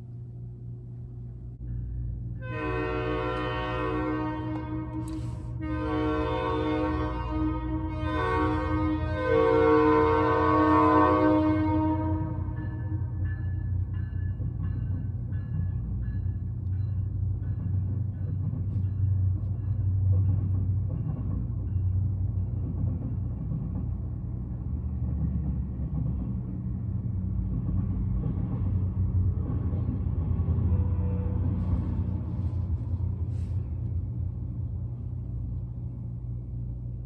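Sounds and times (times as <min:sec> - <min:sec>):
train passing rumble: 0:00.0 - 0:37.0.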